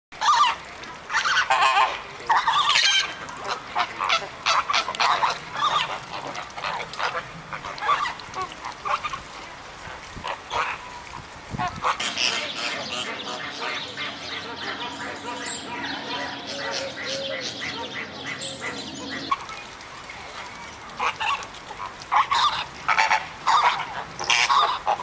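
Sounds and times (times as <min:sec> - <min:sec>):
flamingos calling: 0:00.2 - 0:25.0.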